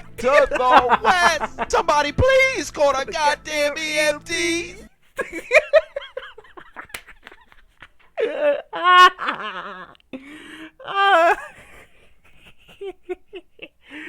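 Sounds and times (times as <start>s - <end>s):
man laughing hard: 0.0s - 10.0s, 10.8s - 13.8s.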